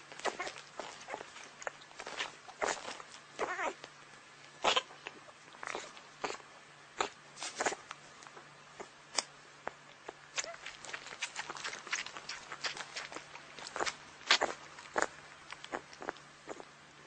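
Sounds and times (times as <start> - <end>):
puppy whining: 0.0 - 3.9, 4.6 - 9.0, 9.6 - 16.8
puppy sucking and smacking: 0.0 - 16.8.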